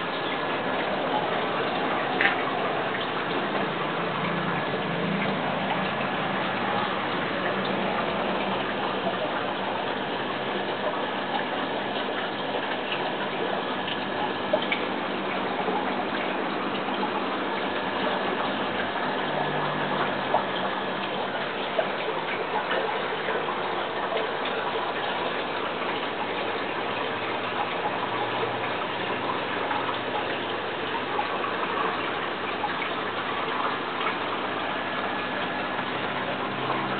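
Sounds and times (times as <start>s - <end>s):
water splashing in fish tank: 0.0s - 36.9s.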